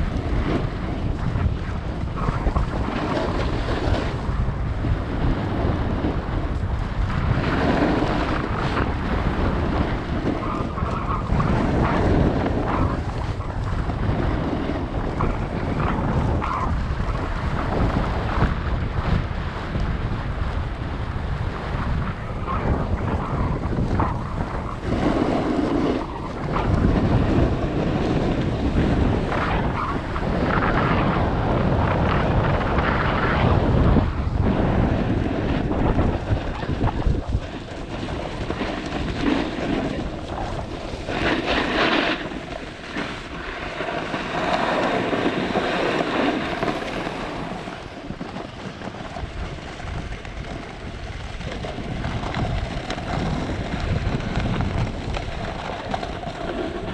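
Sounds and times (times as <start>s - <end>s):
snowboard scraping over snow: 0.0s - 56.9s
wind rushing over microphone: 0.0s - 56.9s.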